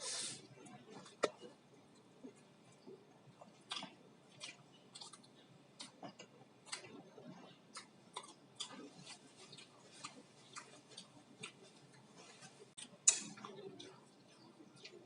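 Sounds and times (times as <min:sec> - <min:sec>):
person chewing noodles: 0:01.8 - 0:15.0.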